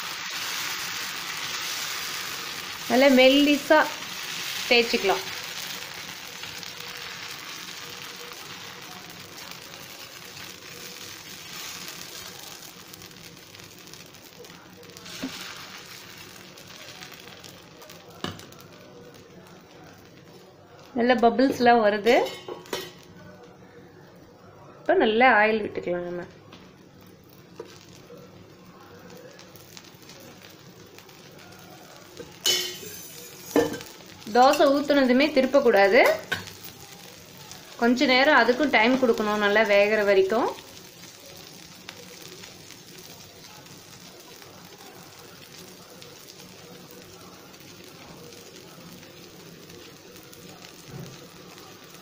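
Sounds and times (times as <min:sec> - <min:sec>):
batter sizzling on hot griddle: 0:00.0 - 0:52.0.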